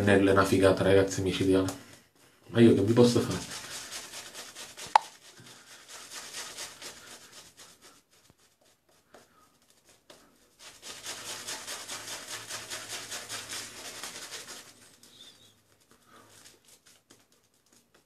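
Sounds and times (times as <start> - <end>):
shaving brush scrubbing on stubble: 2.6 - 18.0.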